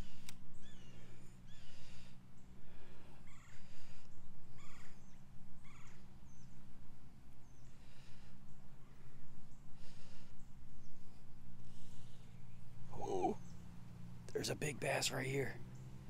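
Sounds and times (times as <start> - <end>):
birds calling: 0.0 - 16.0
low steady hum: 0.0 - 16.0.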